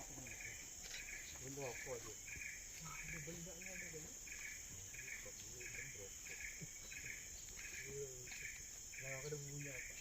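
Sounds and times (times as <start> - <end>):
insect repeating chirp: 0.0 - 10.0
insects high-pitched drone: 0.0 - 10.0.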